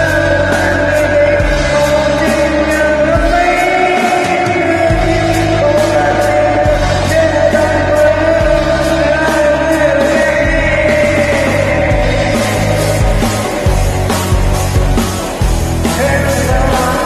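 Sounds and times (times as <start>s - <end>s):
person singing long notes: 0.0s - 14.4s
rock music with drums and bass: 0.0s - 17.0s.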